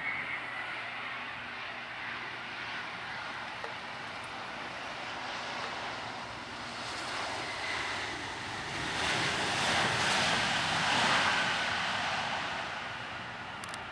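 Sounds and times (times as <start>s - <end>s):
faint jet whine: 0.0s - 13.9s
jet airliner roar: 0.0s - 13.9s.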